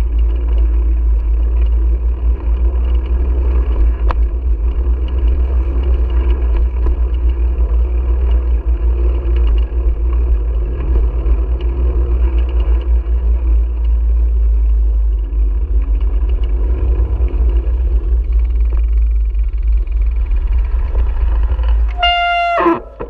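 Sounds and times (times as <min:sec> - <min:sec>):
bicycle tyre rumble on pavement: 0:00.0 - 0:23.0.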